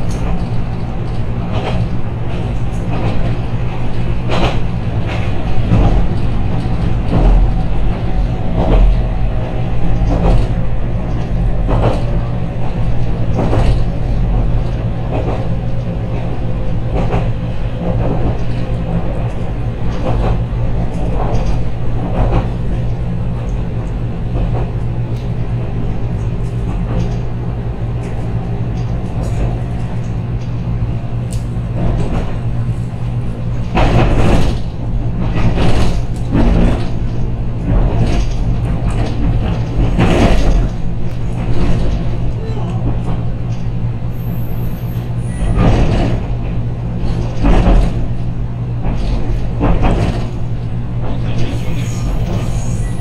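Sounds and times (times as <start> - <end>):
stopped electric train humming: 0.0 - 53.0.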